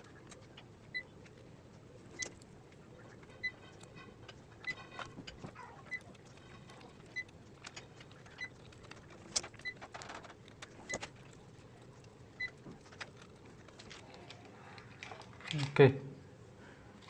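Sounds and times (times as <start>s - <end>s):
clicks and scrapes on wires: 2.1s - 15.8s.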